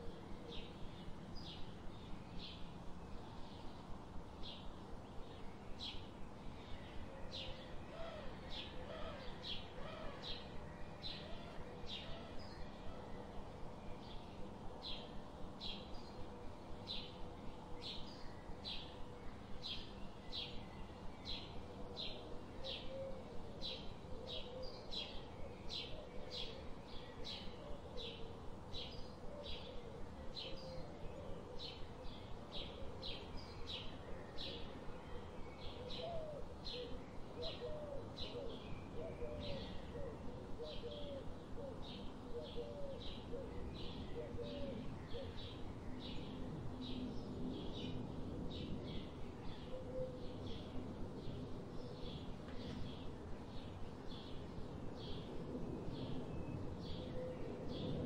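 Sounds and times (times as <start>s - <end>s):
low background hiss: 0.0s - 58.0s
songbird high chirp: 0.0s - 58.0s.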